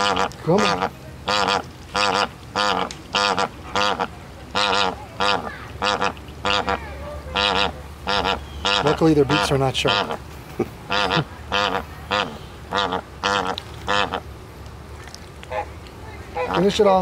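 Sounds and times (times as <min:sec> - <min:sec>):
flamingos honking: 0:00.0 - 0:14.3, 0:15.4 - 0:17.0.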